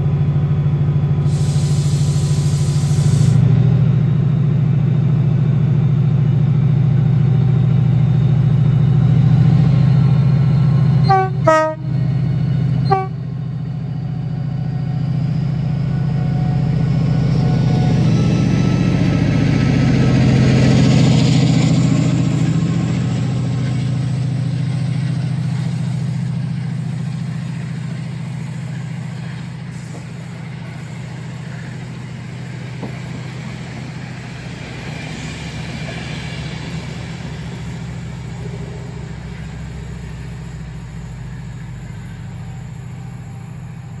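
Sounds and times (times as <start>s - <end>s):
locomotive engine droning: 0.0s - 44.0s
train coaches rumbling on rails: 0.0s - 44.0s.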